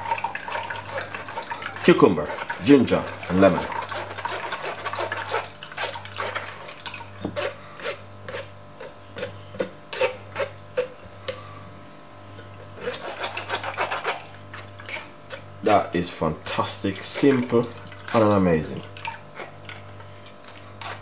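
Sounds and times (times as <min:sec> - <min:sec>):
spoon rasping against mesh sieve: 0:00.3 - 0:10.9, 0:12.8 - 0:15.9, 0:16.5 - 0:18.4, 0:19.1 - 0:21.0.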